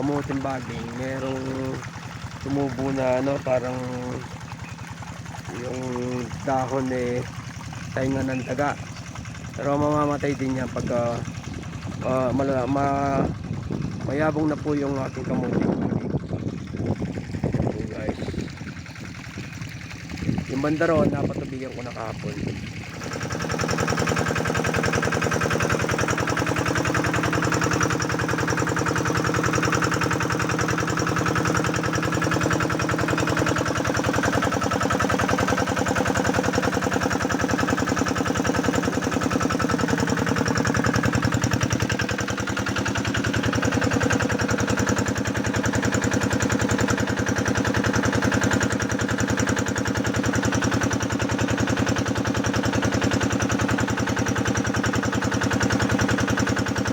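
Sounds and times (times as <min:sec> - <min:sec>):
diesel pump engine running: 0:00.0 - 0:56.9.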